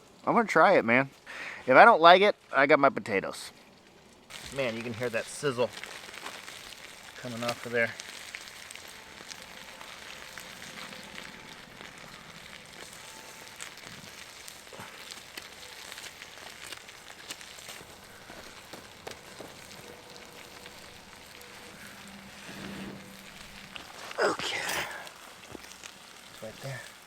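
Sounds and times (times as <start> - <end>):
meat sizzling on coals: 0.0 - 27.0.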